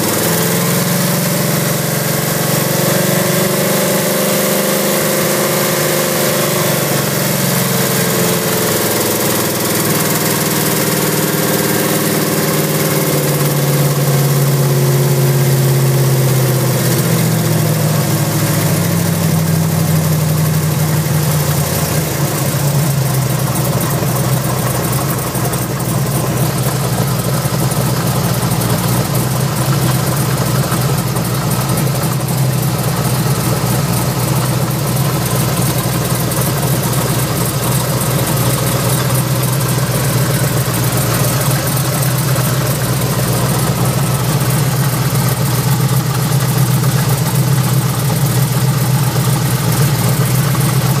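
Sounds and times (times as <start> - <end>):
car engine idling: 0.0 - 51.0
alternator vibrating: 8.1 - 51.0.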